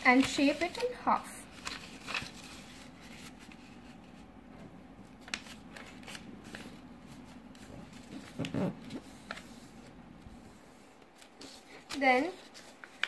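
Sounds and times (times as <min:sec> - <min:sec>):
paper rustling and folding: 0:00.0 - 0:04.3, 0:05.0 - 0:13.0
faint steady hum: 0:00.0 - 0:13.0.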